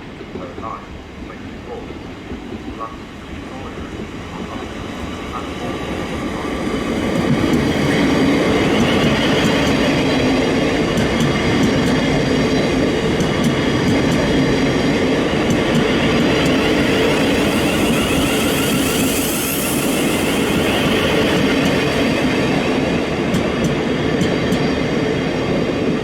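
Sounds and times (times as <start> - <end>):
train running close by: 0.0 - 26.0.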